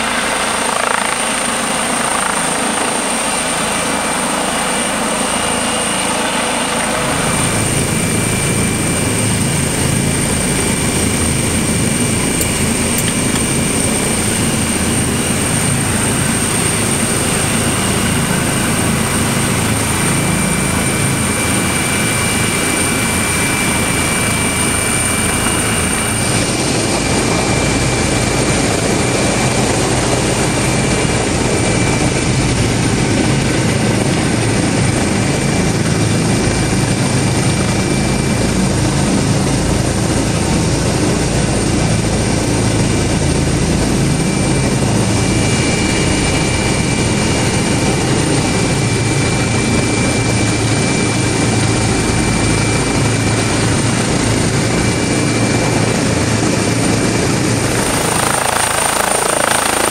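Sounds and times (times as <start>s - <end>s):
helicopter rotor and turbine whine: 0.0s - 59.9s.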